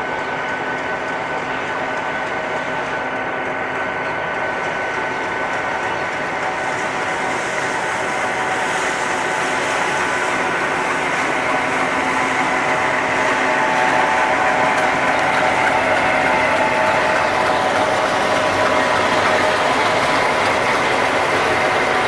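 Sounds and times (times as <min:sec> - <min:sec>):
diesel locomotive engine rumble: 0:00.0 - 0:22.0
high engine whine: 0:00.0 - 0:22.0.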